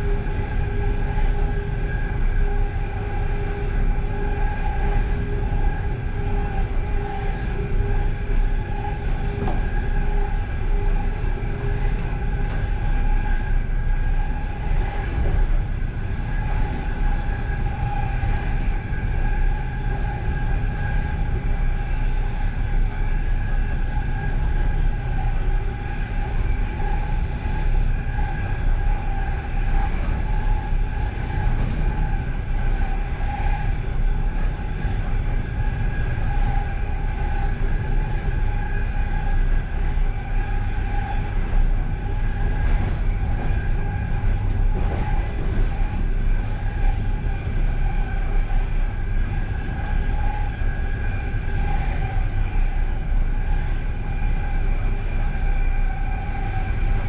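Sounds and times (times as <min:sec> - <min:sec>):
steady high whine: 0:00.0 - 0:57.0
train rumble: 0:00.0 - 0:57.0.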